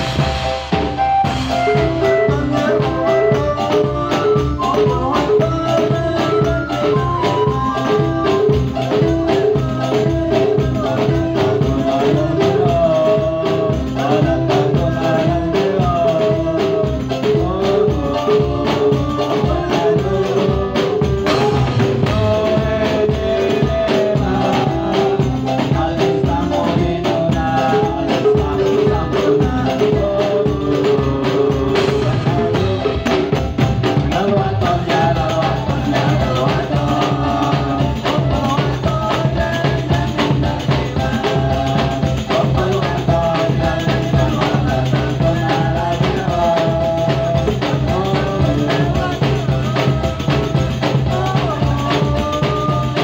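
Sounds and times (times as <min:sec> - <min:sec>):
drums beating: 0:00.0 - 0:53.0
jingling tambourine percussion: 0:00.0 - 0:53.0
person singing: 0:01.0 - 0:53.0.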